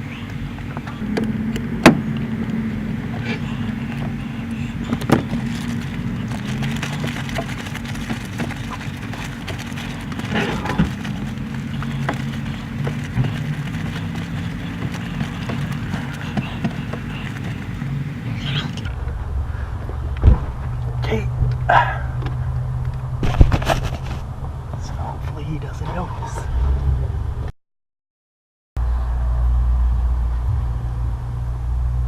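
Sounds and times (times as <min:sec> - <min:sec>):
low mechanical hum: 0:00.0 - 0:27.5, 0:28.8 - 0:32.0.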